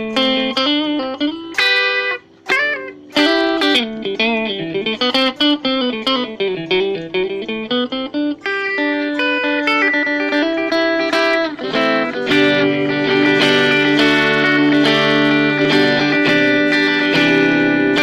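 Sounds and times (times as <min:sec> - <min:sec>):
clean electric guitar melody: 0:00.0 - 0:18.0.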